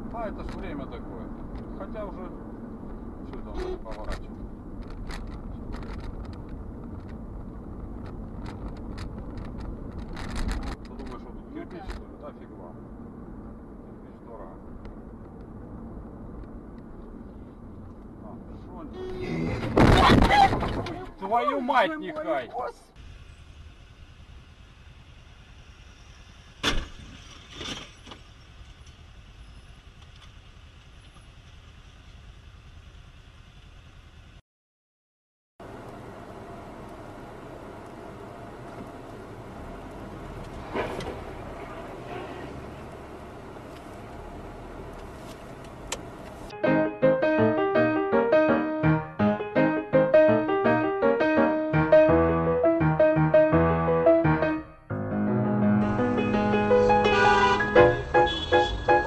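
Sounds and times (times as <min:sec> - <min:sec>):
car engine and tyre rumble: 0:00.0 - 0:34.4, 0:35.6 - 0:46.6, 0:55.5 - 0:59.0.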